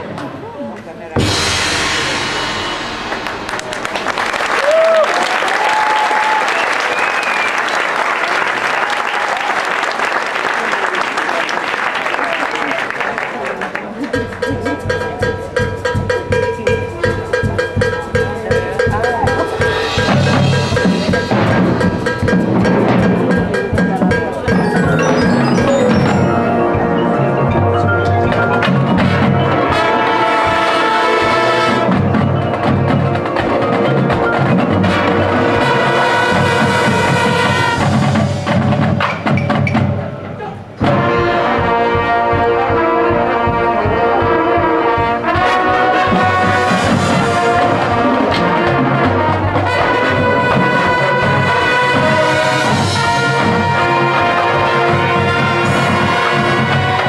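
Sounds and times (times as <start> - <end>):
marching band playing: 0.0 - 57.0
mallet percussion: 1.2 - 5.9, 13.9 - 57.0.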